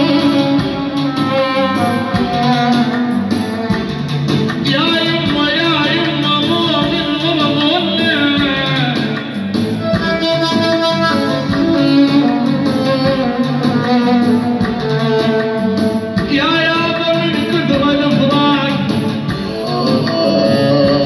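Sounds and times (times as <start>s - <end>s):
electronic keyboard melody: 0.0s - 21.0s.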